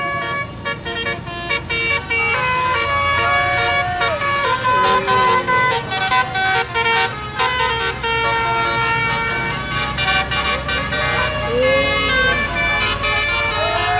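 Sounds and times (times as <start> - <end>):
musical bus horns: 0.0 - 13.9.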